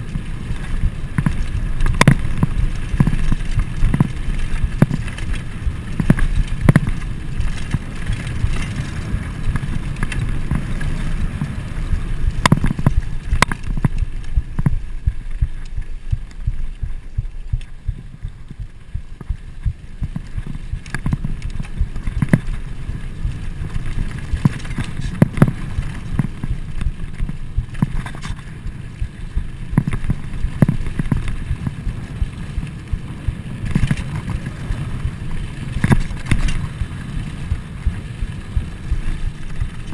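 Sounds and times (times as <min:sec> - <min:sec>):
bike rattling over bumps: 0:00.0 - 0:39.9
bike tyres rumbling on dirt: 0:00.0 - 0:39.9.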